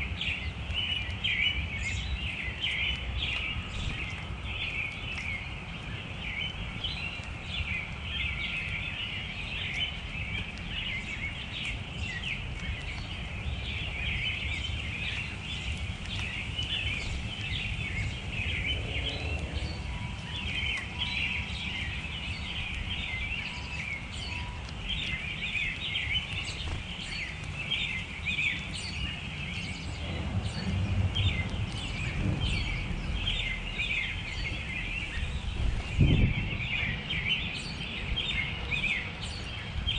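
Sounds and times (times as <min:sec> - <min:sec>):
small birds chirping: 0:00.0 - 0:39.9
steady low rumble: 0:00.0 - 0:39.9.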